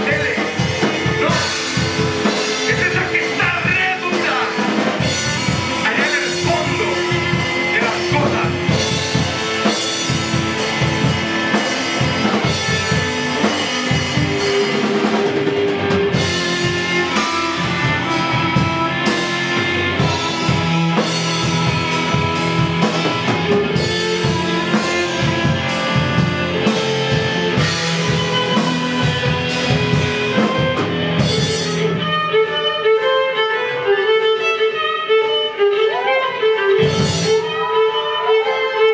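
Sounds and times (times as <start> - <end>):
drum kit playing: 0.0 - 35.4, 36.7 - 38.4
guitar playing: 0.0 - 38.9
sustained violin notes: 0.0 - 38.9.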